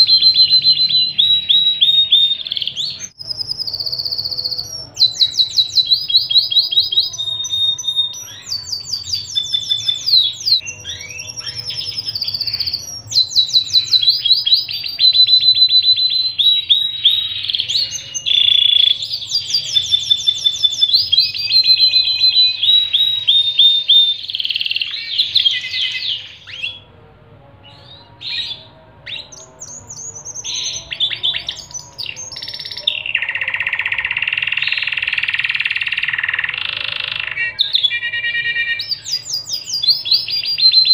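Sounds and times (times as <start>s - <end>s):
canary singing trills: 0.0s - 27.0s, 27.6s - 40.9s.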